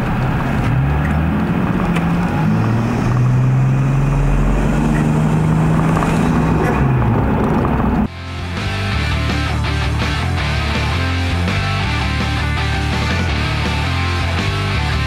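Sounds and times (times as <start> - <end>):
van engine under power: 0.0 - 15.0.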